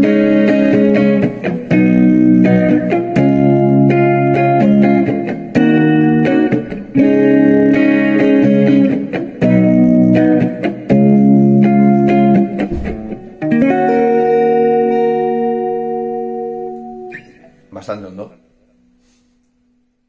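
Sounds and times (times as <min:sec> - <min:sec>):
electric guitar strummed chords: 0:00.0 - 0:17.7.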